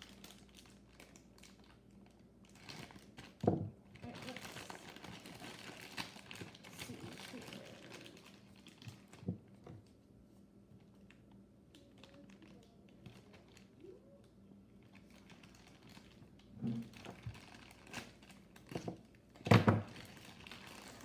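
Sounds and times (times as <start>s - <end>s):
plastic packaging crinkling: 0.0s - 9.6s, 10.8s - 21.0s.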